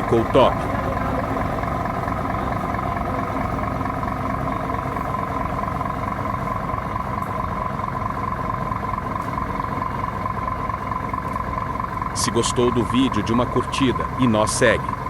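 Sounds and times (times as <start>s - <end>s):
diesel truck engine idling: 0.0s - 15.0s
engine whine: 0.0s - 15.0s.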